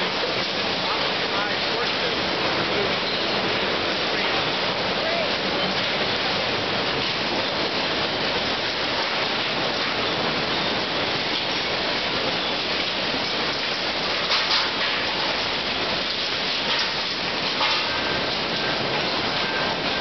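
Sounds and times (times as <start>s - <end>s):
conveyor belts and sorting machinery: 0.0s - 20.0s.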